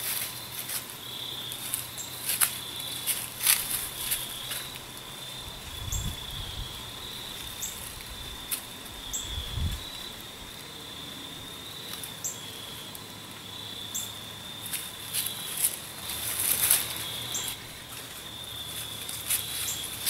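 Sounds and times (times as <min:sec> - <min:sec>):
cricket trilling: 0:00.0 - 0:20.0.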